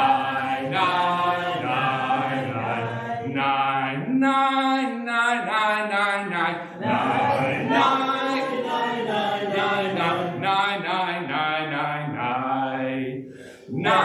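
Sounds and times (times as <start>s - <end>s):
congregation singing in unison: 0.0s - 14.0s.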